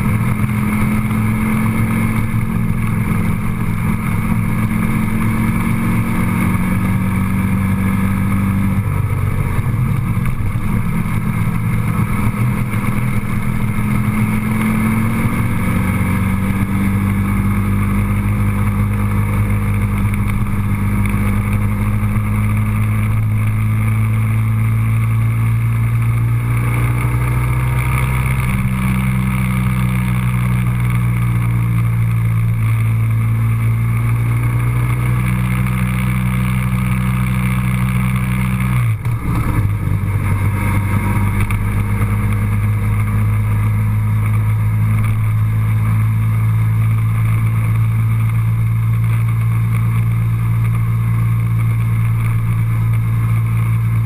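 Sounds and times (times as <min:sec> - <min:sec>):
road and wind noise: 0:00.0 - 0:54.0
vehicle engine droning: 0:00.0 - 0:54.0.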